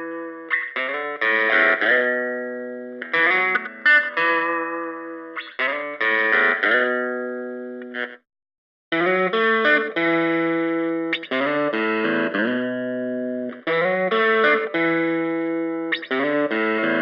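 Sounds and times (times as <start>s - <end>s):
electric guitar chords ringing: 0.0s - 8.2s, 8.9s - 17.0s.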